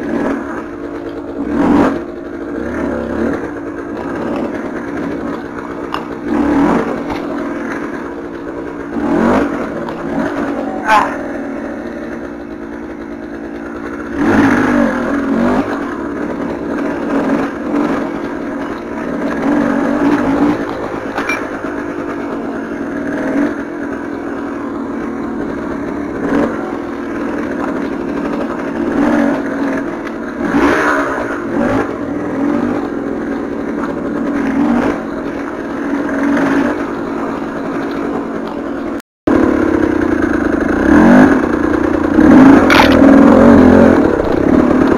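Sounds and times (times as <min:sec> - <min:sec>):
two-stroke motorcycle engine revving: 0:00.0 - 0:44.9.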